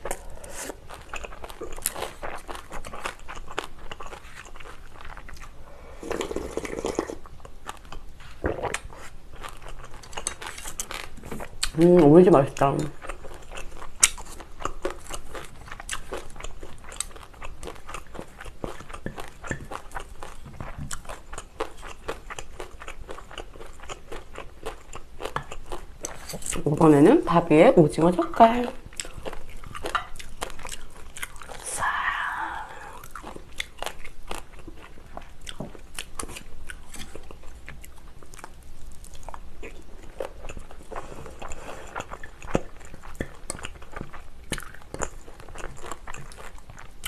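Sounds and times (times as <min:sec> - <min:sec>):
chewing and crunching crisp food: 0:00.0 - 0:27.0, 0:28.0 - 0:32.0, 0:32.6 - 0:47.0.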